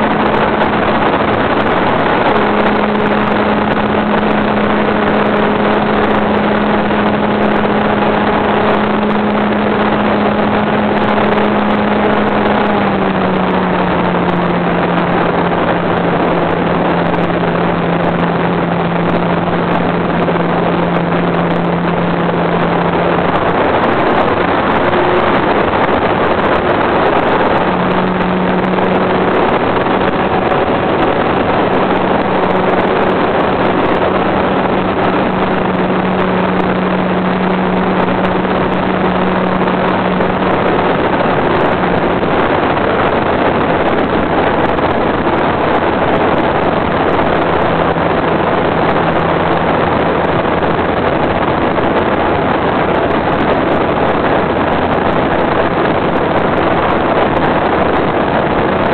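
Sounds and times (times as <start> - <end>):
model airplane motor droning: 0.0 - 58.9
wind rush on microphone: 0.0 - 58.9.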